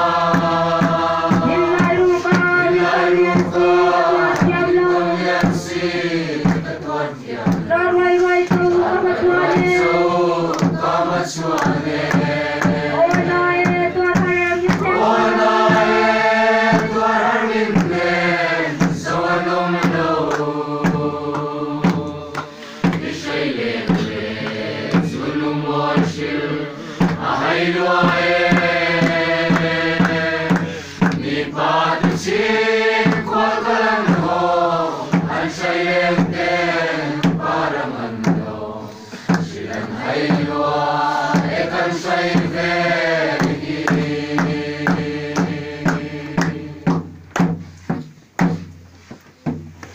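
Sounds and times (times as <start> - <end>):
drum beating: 0.0 - 49.9
group singing slowly: 0.0 - 49.9.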